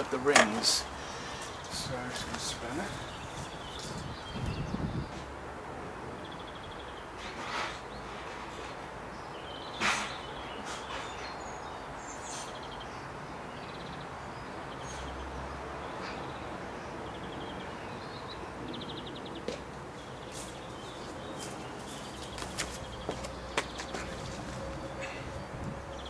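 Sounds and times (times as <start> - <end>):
small birds chirping trills: 0.0 - 5.4, 6.1 - 26.0.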